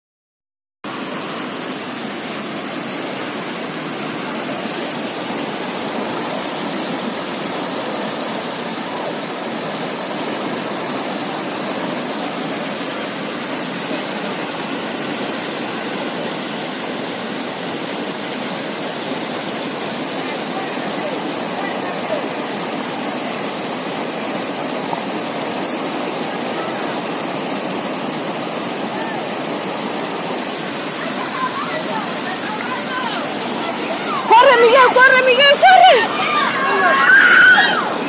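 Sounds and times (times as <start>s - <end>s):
river water rushing: 0.9s - 38.0s.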